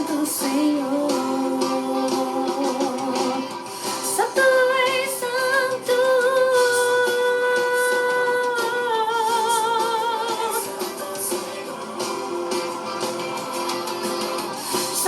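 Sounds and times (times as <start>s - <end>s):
woman singing a gospel vocal run: 0.0s - 13.4s, 14.8s - 15.0s.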